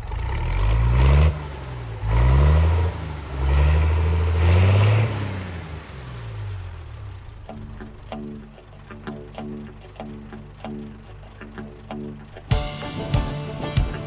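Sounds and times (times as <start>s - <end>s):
combine harvester engine revving: 0.0s - 14.0s.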